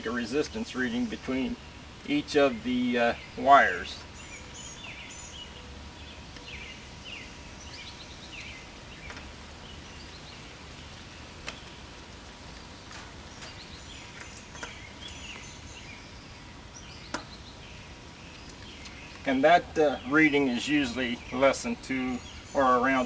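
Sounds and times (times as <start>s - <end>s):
birds chirping and trilling: 0.0s - 23.0s
outdoor background noise: 0.0s - 23.0s.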